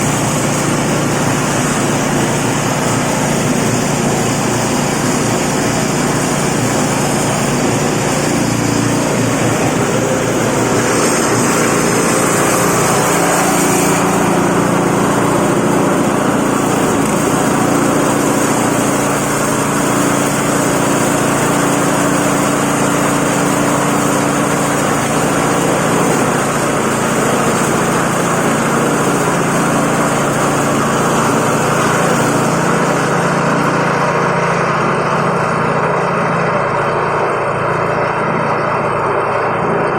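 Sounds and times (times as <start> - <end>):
feed grinder machine running: 0.0 - 39.9.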